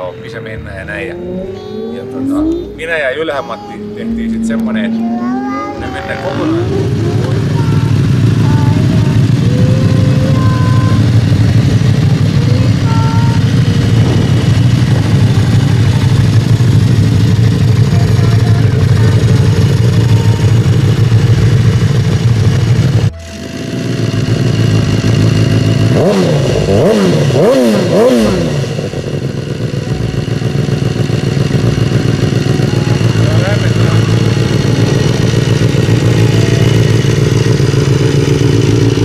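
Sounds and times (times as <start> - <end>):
motorcycle engine revving: 0.0 - 39.0
motorcycle engine running: 0.0 - 39.0.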